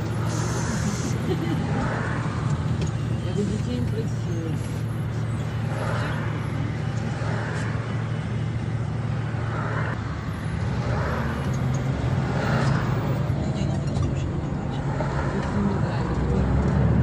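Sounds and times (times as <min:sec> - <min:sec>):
bus engine hum: 0:00.0 - 0:17.0
road and tyre noise: 0:00.0 - 0:17.0
traffic passing by: 0:00.0 - 0:17.0.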